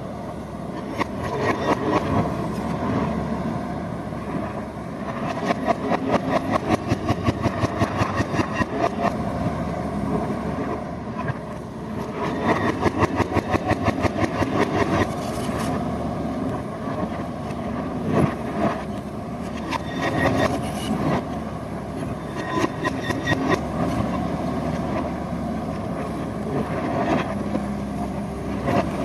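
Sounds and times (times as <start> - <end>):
diesel engine of heavy machinery: 0.0 - 29.0.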